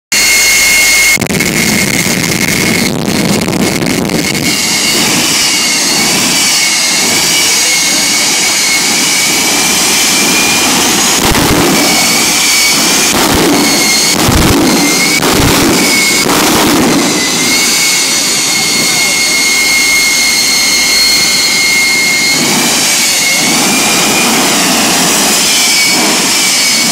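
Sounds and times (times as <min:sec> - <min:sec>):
jet engine turbine whine: 0:00.1 - 0:26.9.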